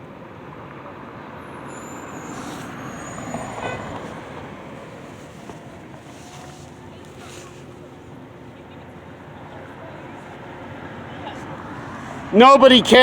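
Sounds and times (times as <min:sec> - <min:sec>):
vehicle passing: 0:01.2 - 0:13.0.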